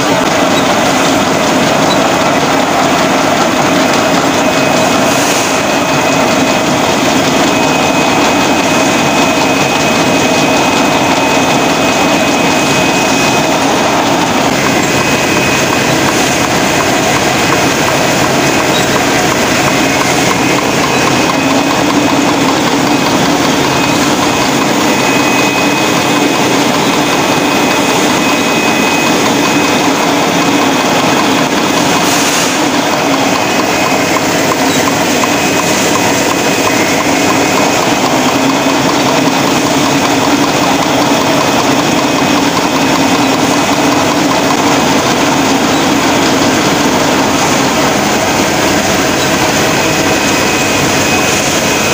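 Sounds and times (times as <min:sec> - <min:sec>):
high whine: 0:00.0 - 0:51.9
labelling machine din: 0:00.0 - 0:51.9.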